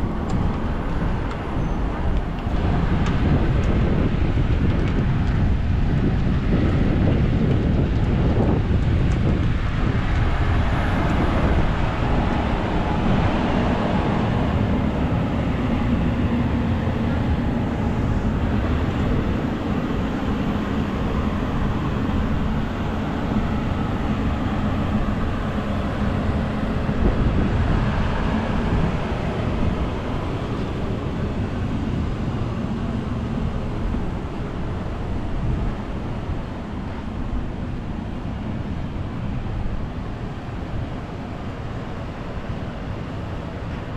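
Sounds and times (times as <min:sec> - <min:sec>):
jet engine rumble: 0:00.0 - 0:43.9.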